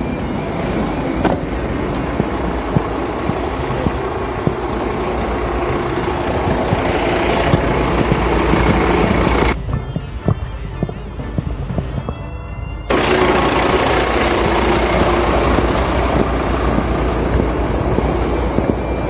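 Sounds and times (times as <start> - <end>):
fire engine running: 0.0 - 19.0.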